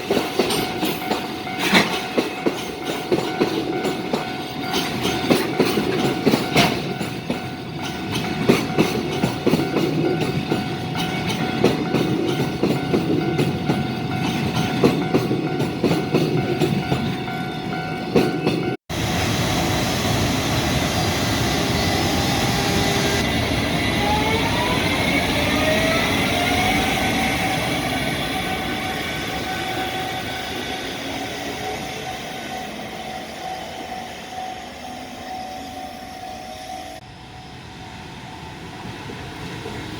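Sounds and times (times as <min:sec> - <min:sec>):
train wheels clacking on rails: 0:00.0 - 0:34.6.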